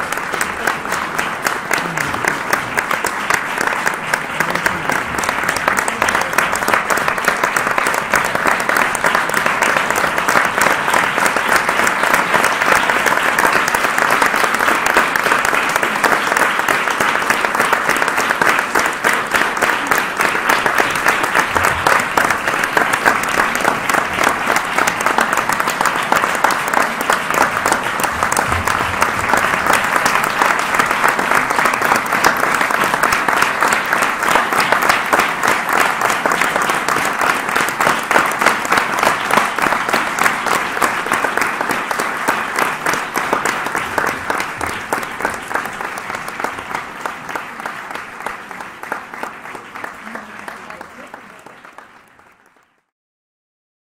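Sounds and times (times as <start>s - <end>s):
audience applause: 0.0s - 52.9s.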